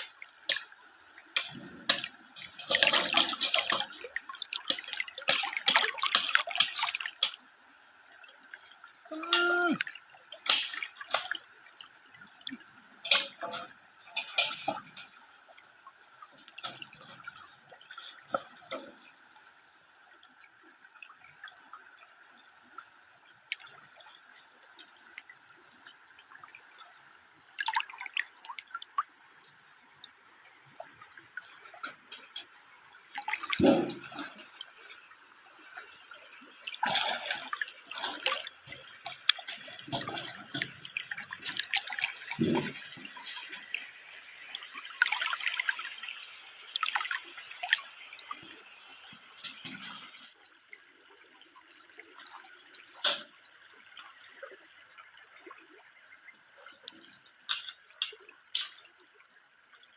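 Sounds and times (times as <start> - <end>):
water splashing and dripping: 0.0 - 59.9.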